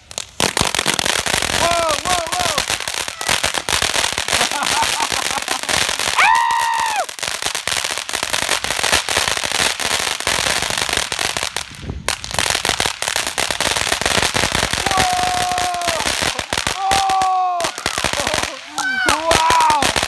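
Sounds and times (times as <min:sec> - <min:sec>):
firework fountain crackling: 0:00.0 - 0:20.0.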